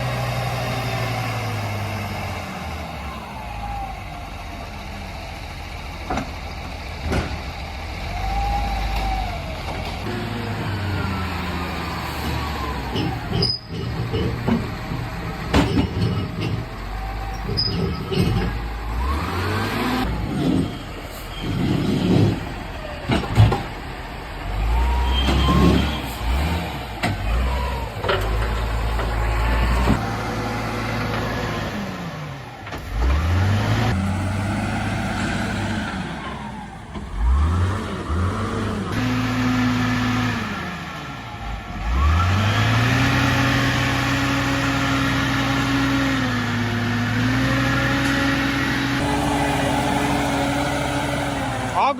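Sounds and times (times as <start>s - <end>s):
heavy diesel engines revving: 0.0s - 51.9s.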